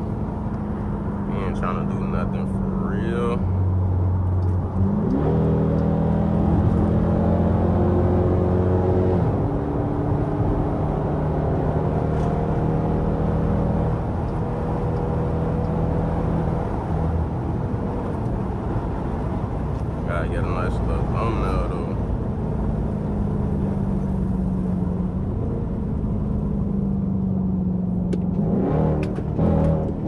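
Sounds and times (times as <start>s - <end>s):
tyre and road noise: 0.0s - 30.0s.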